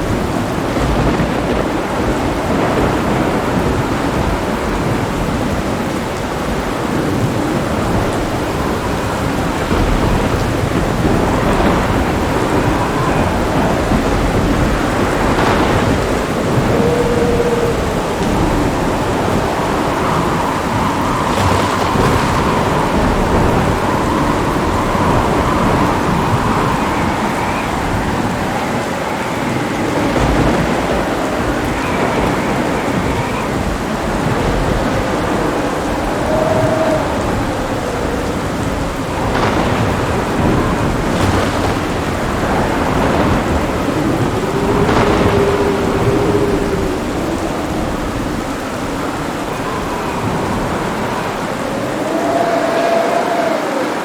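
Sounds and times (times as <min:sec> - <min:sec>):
heavy rain falling: 0:00.0 - 0:54.0
low rumbling thunder: 0:00.0 - 0:54.0.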